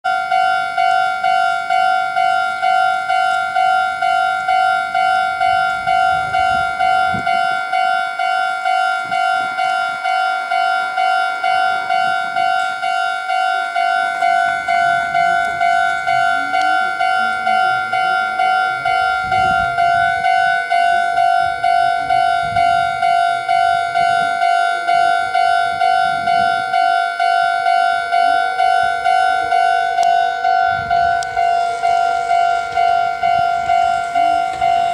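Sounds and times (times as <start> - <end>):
level-crossing warning bell: 0.0 - 34.9.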